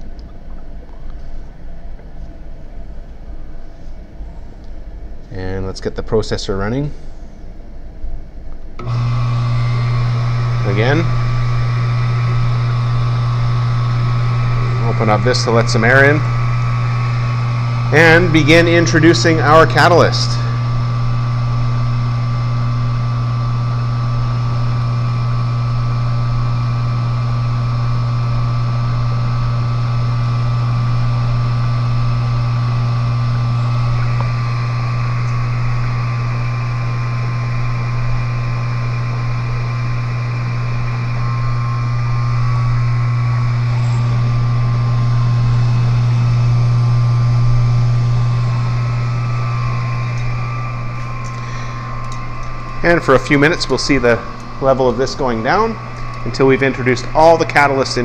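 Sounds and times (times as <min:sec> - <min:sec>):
pump humming: 0:08.8 - 0:58.0.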